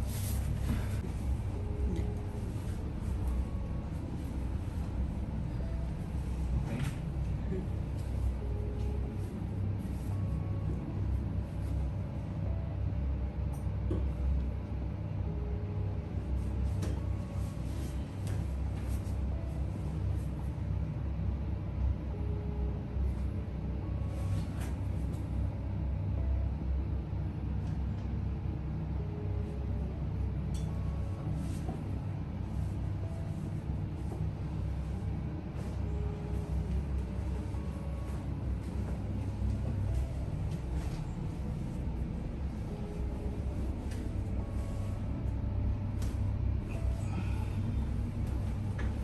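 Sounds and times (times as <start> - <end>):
soft background music: 0.0 - 49.0
steady low rumble: 0.0 - 49.0.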